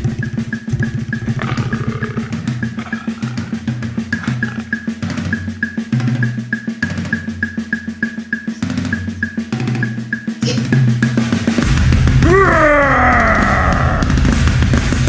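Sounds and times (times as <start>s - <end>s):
drum-driven soundtrack music: 0.0s - 15.0s.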